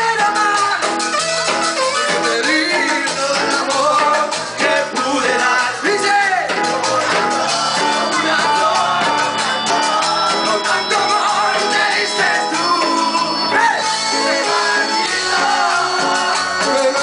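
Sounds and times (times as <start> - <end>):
man singing: 0.0 - 1.0, 2.1 - 17.0
drums: 0.0 - 17.0
electric guitar: 0.0 - 17.0
live band playing: 0.0 - 17.0.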